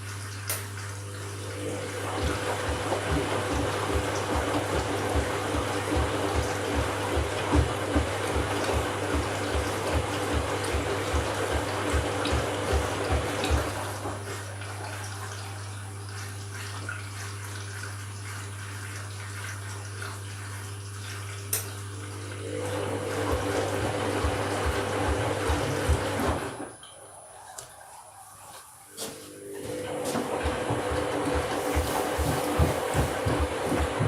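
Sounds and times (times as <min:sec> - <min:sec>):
low pump hum: 0:00.0 - 0:26.8, 0:29.0 - 0:34.0
washing machine water running: 0:00.0 - 0:34.0.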